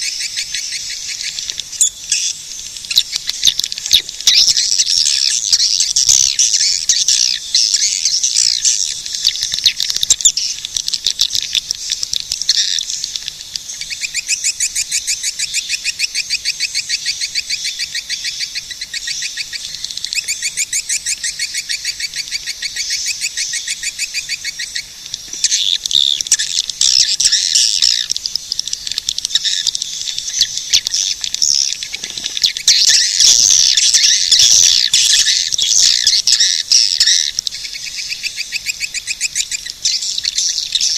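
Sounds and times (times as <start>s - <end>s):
swiftlets twittering and chirping: 0.0s - 40.9s.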